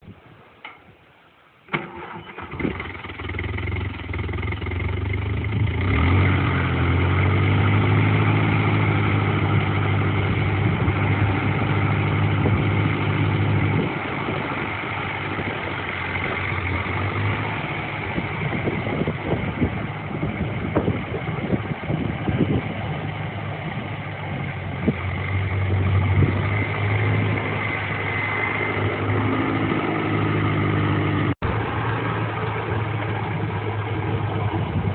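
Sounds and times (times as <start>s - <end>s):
tractor engine starting and running: 1.6s - 34.9s.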